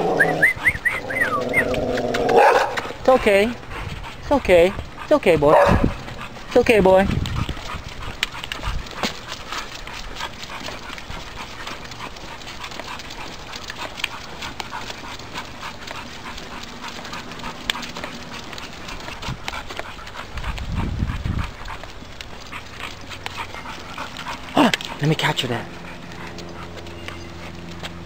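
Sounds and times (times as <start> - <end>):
dogs panting: 0.0 - 28.0.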